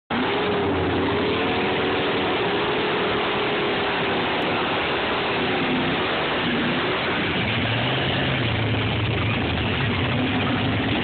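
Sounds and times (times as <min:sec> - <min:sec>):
engine revving during burnout: 0:00.1 - 0:11.0.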